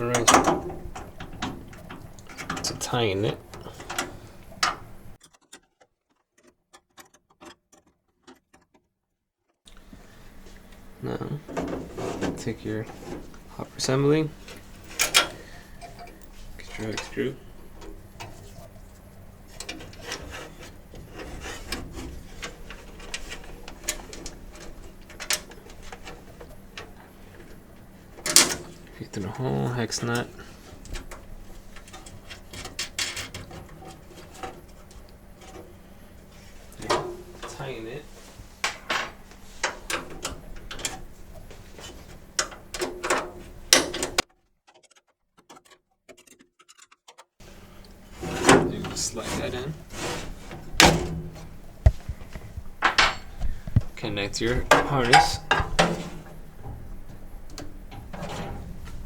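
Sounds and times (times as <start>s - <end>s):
light clicks and scraping: 0.0s - 8.7s, 9.7s - 59.0s.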